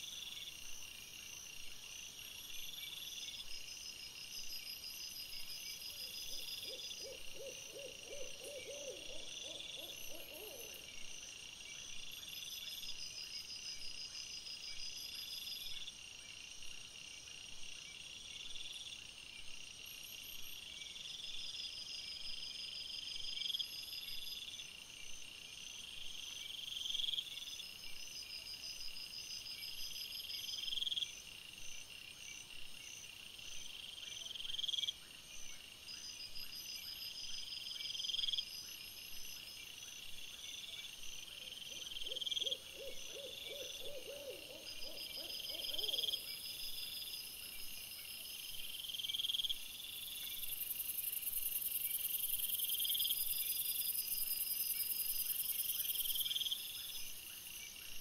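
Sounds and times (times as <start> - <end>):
low rapid pulsed insect call: 0.0 - 58.0
steady high insect chirping: 0.0 - 58.0.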